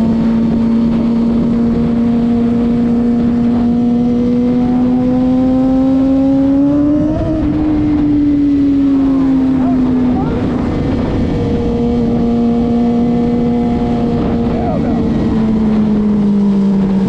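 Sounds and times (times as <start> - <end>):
motorcycle engine accelerating: 0.0 - 17.0
wind rush on microphone: 0.0 - 17.0.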